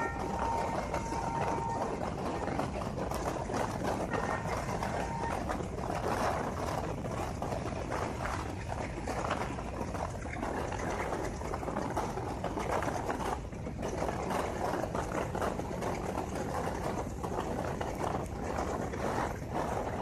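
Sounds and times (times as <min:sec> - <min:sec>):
train wheels rattling on track: 0:00.0 - 0:20.0.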